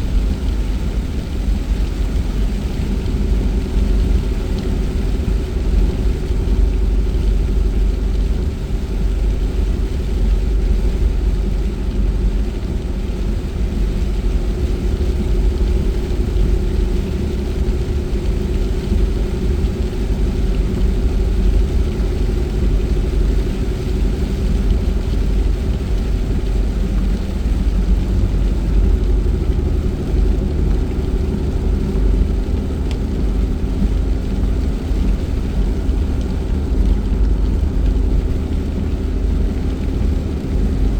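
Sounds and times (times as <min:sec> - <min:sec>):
car engine and tyre rumble: 0:00.0 - 0:40.9
tyres hissing on wet road: 0:00.0 - 0:40.9.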